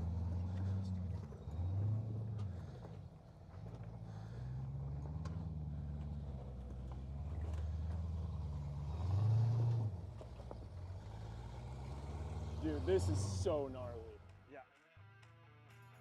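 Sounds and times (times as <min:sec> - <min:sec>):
off-road vehicle engine at low revs: 0:00.0 - 0:14.5.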